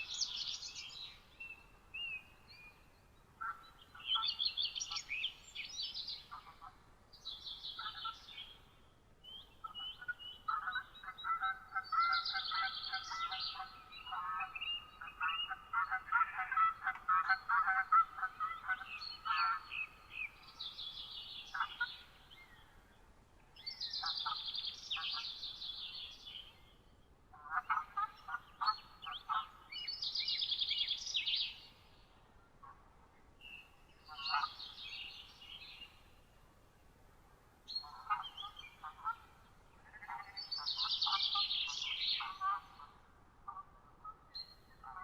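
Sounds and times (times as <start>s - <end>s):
bird chirps and calls: 0.0s - 22.8s, 23.6s - 26.8s, 27.5s - 32.1s, 33.4s - 36.2s, 37.7s - 43.0s, 44.1s - 45.0s
songbirds trilling: 0.0s - 45.0s.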